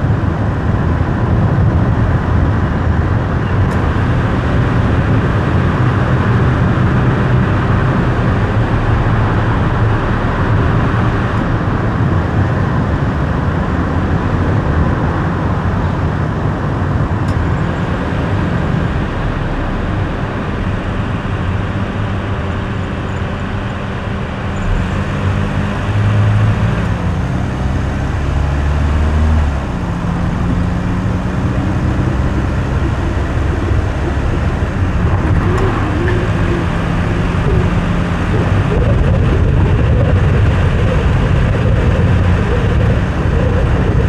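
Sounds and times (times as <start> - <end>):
car engine hum: 0.0 - 44.0
road and tyre noise: 0.0 - 44.0.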